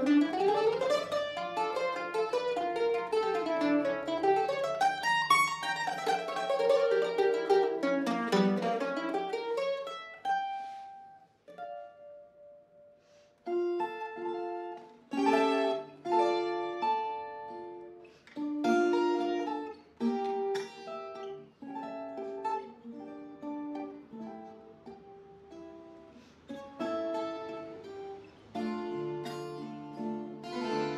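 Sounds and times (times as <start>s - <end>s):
plucked string duet: 0.0s - 30.9s.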